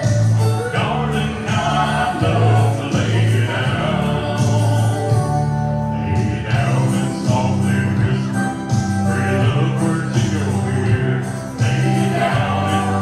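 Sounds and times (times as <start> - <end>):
backing track with bass line: 0.0 - 13.0
men singing into microphones: 0.0 - 13.0.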